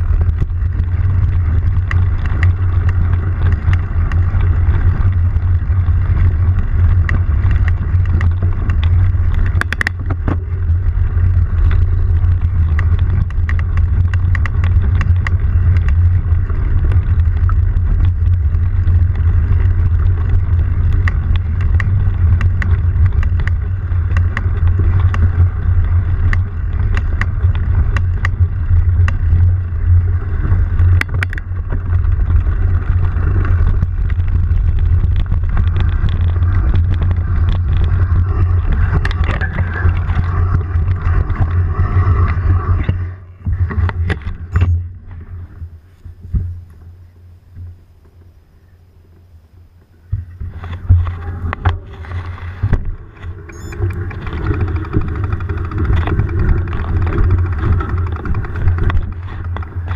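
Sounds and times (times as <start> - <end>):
bike rumble on dirt trail: 0.0 - 59.9.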